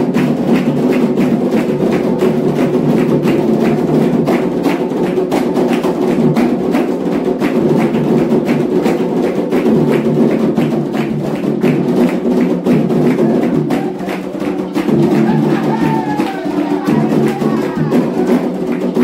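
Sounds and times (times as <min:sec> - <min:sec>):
hand drums: 0:00.0 - 0:19.0.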